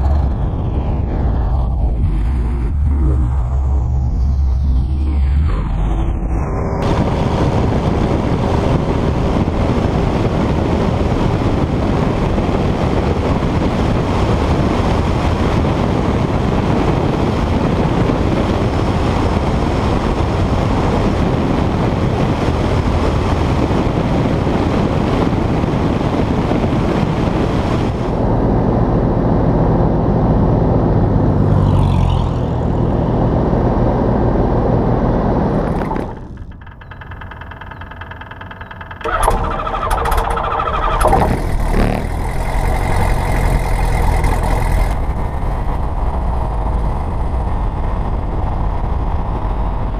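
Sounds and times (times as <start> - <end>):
airplane engine and propeller drone: 0.0 - 49.9
wind rush on microphone: 0.0 - 49.9.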